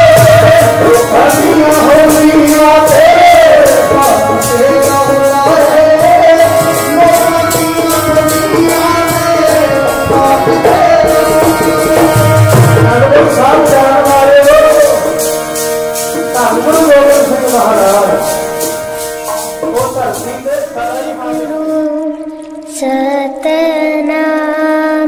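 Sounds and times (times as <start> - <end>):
hand drum beating: 0.0 - 15.6, 16.2 - 22.7
harmonium chords: 0.0 - 23.8
devotional hymn singing: 0.0 - 25.0.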